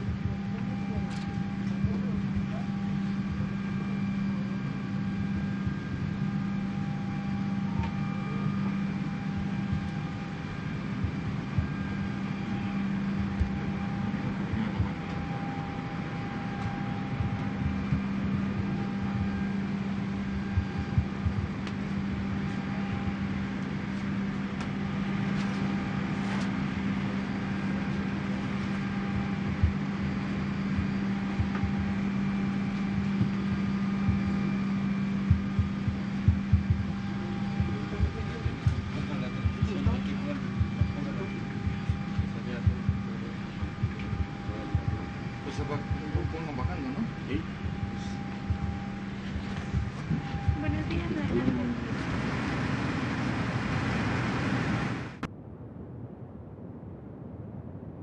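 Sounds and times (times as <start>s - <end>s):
cabin ventilation hum: 0.0s - 55.3s
faint whining tones: 0.0s - 58.0s.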